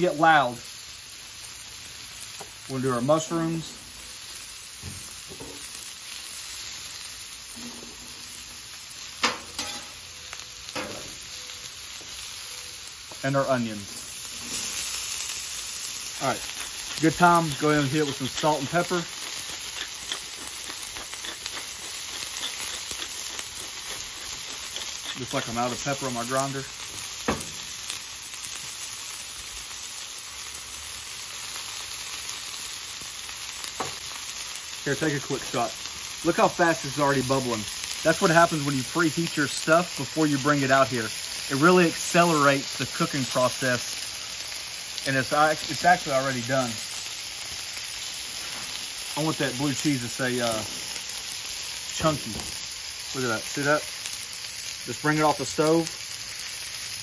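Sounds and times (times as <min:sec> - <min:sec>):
vegetables sizzling on a griddle: 0:00.0 - 0:57.0.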